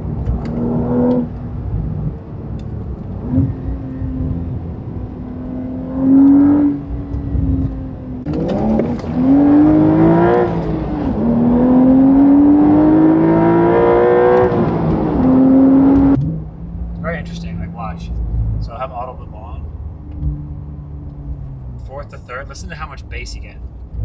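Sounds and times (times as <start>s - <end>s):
engine revving: 0.0s - 22.3s
sports car engine accelerating: 0.0s - 24.0s.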